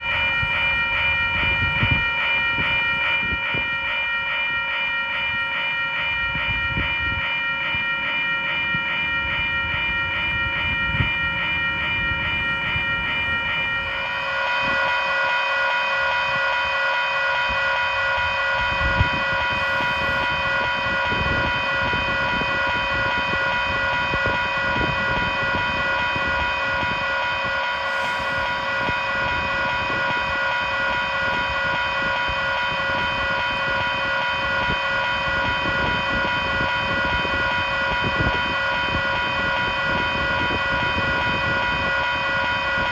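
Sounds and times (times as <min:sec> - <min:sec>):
railroad crossing bells ringing: 0:00.0 - 0:42.9.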